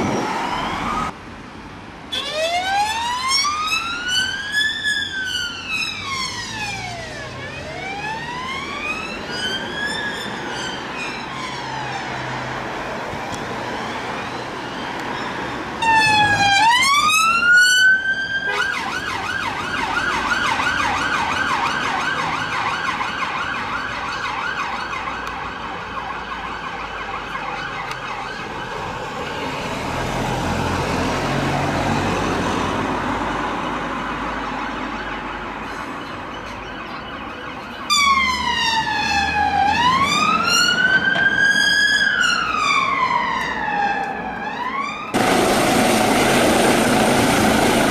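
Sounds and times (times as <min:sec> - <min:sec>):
siren wailing: 0:00.0 - 0:01.2, 0:02.1 - 0:29.2, 0:34.0 - 0:47.9
siren yelp: 0:00.0 - 0:01.2, 0:02.1 - 0:29.0, 0:34.0 - 0:47.9.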